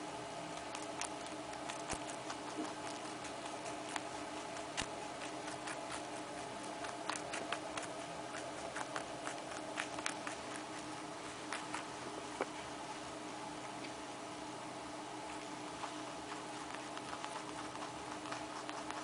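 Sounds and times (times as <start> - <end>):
low steady hum: 0.0 - 19.0
small pet chewing carrot: 0.1 - 14.0, 15.1 - 19.0.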